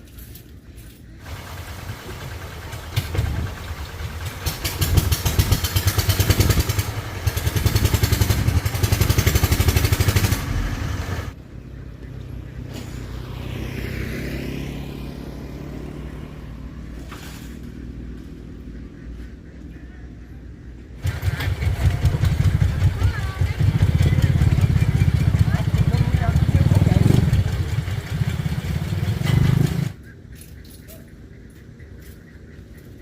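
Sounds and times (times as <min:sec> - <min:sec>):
vehicle engine running hard: 0:01.1 - 0:33.0.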